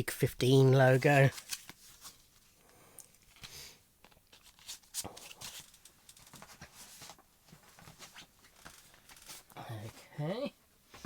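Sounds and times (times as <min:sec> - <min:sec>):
rustling of card and paper: 0:00.9 - 0:10.0.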